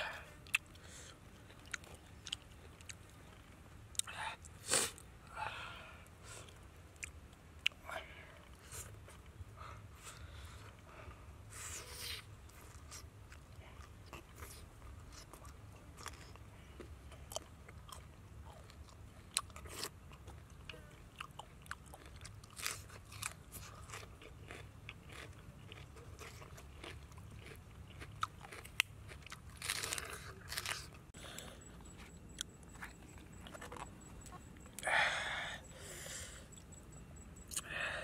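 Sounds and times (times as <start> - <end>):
person chewing raw fish: 0.0 - 5.1, 6.4 - 7.8, 11.5 - 37.8
low steady hum: 0.0 - 38.0.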